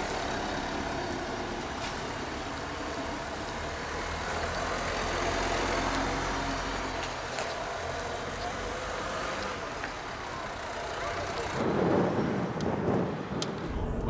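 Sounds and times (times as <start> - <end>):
road noise: 0.0 - 14.0
vehicle engine: 0.0 - 14.0.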